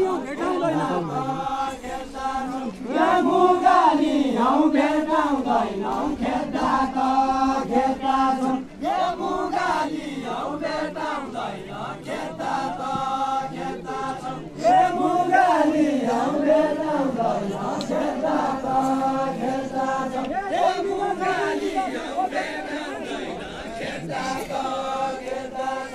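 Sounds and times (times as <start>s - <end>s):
group singing in unison: 0.0s - 25.9s.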